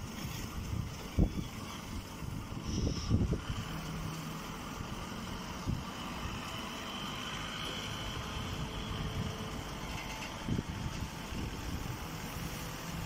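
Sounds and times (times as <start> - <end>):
hay baler motor hum: 0.0 - 13.0.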